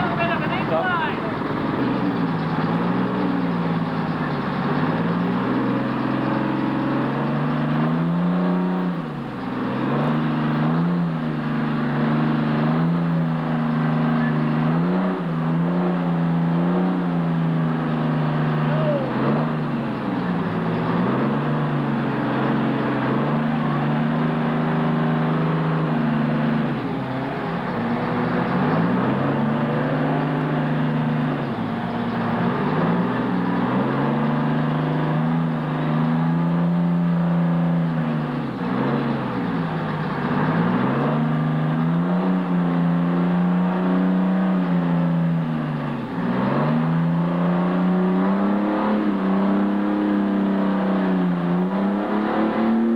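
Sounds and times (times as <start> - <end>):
truck engine revving under load: 0.0 - 52.9.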